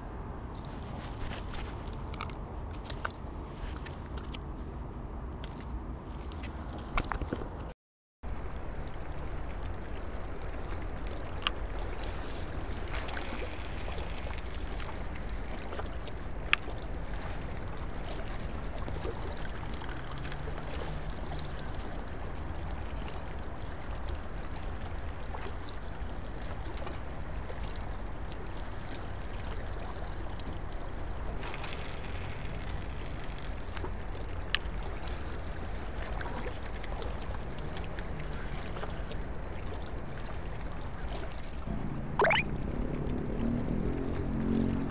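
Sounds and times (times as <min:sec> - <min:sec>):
waterside rumble and hiss: 0:08.3 - 0:44.9.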